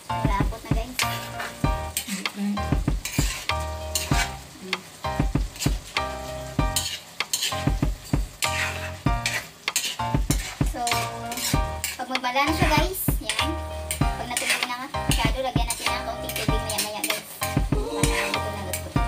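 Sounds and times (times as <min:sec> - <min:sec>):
food sizzling: 0:00.0 - 0:19.0
metal spatula scraping a wok: 0:00.9 - 0:04.6, 0:05.4 - 0:19.0.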